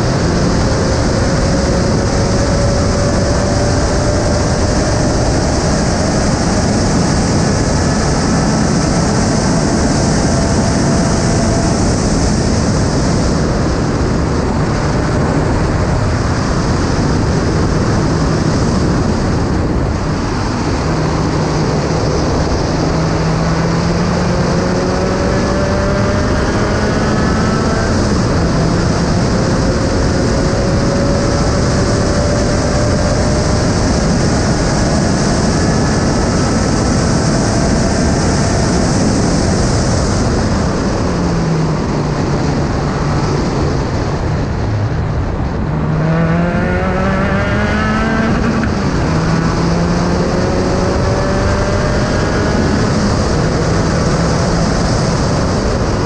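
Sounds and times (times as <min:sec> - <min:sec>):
race car engine running hard: 0:00.0 - 0:56.0
wind rush over microphone: 0:00.0 - 0:56.0.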